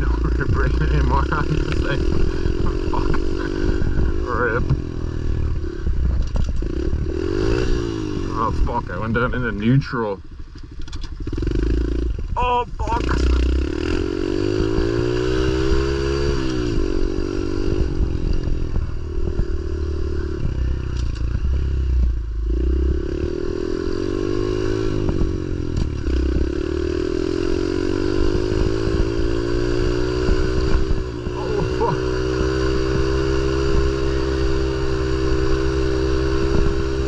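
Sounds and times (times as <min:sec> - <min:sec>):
pit bike engine revving: 0:00.0 - 0:09.8, 0:11.0 - 0:37.0
low rumble: 0:00.0 - 0:27.0, 0:28.1 - 0:35.8.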